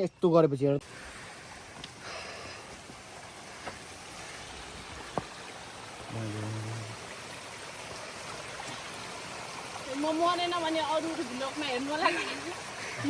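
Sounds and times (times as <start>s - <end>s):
stream running: 0.0s - 13.0s.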